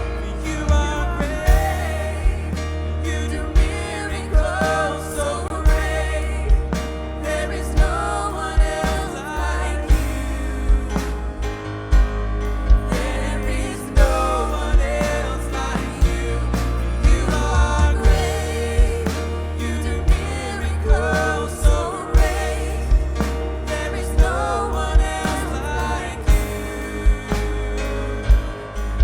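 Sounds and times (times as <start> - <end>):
drum hits: 0.0 - 29.0
heavy steady bass: 0.0 - 29.0
live worship band playing: 0.0 - 29.0
person singing: 0.0 - 29.0.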